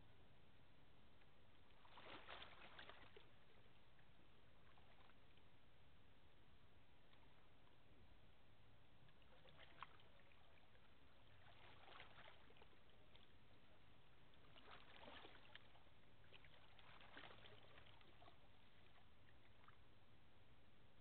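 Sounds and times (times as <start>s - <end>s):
low steady hum: 0.0s - 21.0s
soft crackles: 0.0s - 21.0s.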